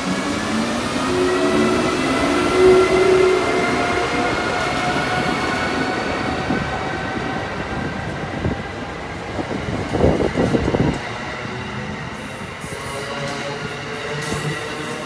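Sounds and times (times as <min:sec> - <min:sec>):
locomotive whine: 0:00.0 - 0:15.0
train wheels rumbling on rail: 0:00.0 - 0:15.0.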